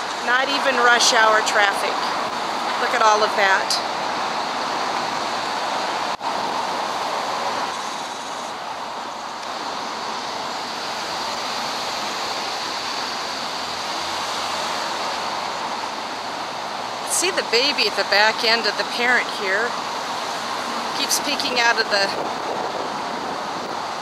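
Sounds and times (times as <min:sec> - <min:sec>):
passing cars traffic: 0:00.0 - 0:24.0.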